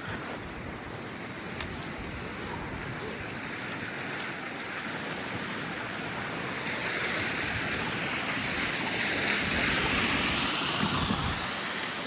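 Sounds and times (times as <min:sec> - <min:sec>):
tyres hissing through slush: 0:00.0 - 0:12.0.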